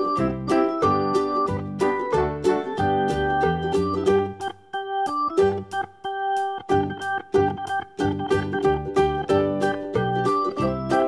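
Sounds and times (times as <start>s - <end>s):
light instrumental music with beat: 0.0s - 11.0s.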